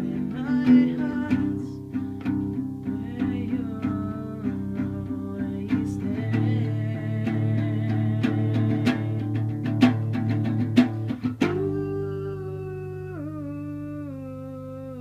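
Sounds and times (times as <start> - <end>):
guitar plucked notes: 0.0 - 15.0.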